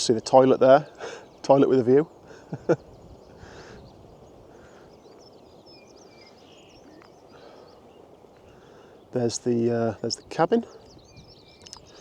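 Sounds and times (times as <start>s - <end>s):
faint birdsong chirps: 0.0s - 12.0s
open-air mountain ambience: 0.0s - 12.0s.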